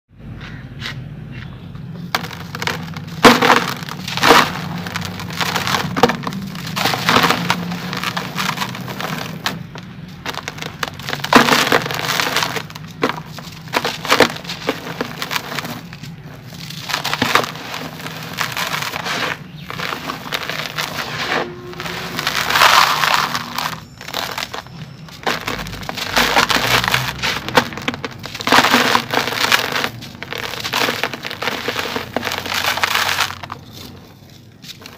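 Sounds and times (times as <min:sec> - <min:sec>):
blocks crunching and crumbling: 0:02.0 - 0:34.9
gritty crumbs falling: 0:02.1 - 0:34.9.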